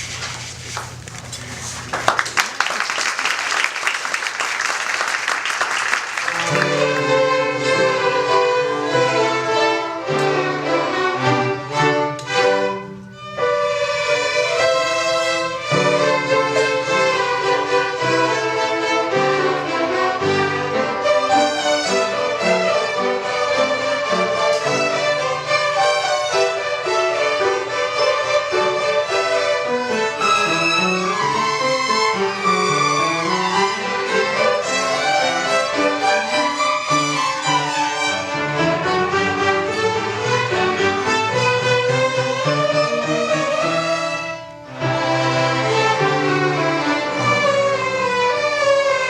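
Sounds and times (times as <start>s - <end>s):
violin melody: 6.2s - 49.0s.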